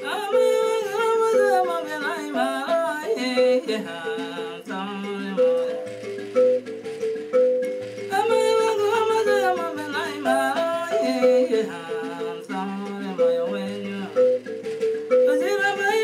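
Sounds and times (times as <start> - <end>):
woman singing: 0.0 - 5.8, 8.1 - 14.4, 15.2 - 16.0
thumb piano plucked notes: 0.0 - 16.0.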